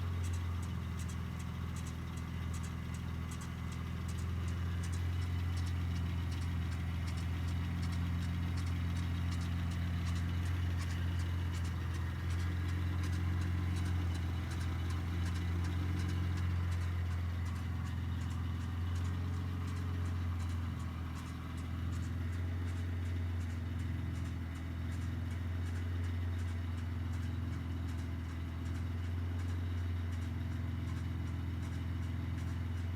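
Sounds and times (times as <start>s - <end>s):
car engine idling: 0.0s - 32.9s
fast engine ticking: 0.0s - 32.9s.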